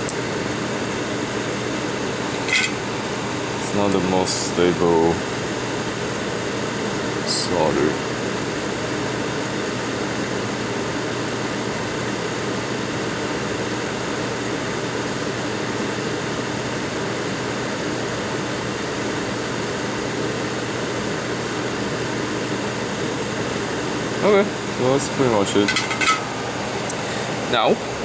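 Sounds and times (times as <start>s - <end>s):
fan rushing air: 0.0s - 28.0s.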